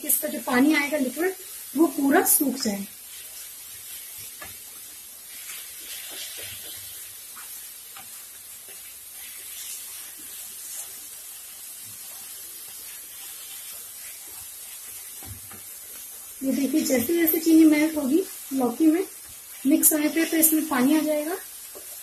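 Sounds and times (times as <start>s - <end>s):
food sizzling in a pan: 0.0s - 22.0s
wooden spatula scraping a pan: 0.0s - 22.0s.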